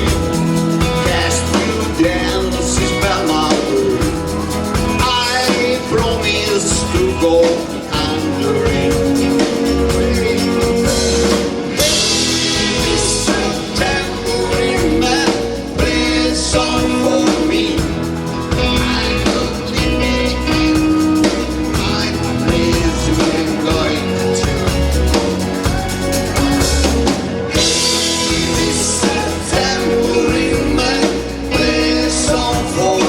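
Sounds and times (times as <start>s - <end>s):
band playing pop-rock song: 0.0s - 33.0s
drums: 0.0s - 33.0s
person singing: 0.0s - 33.0s.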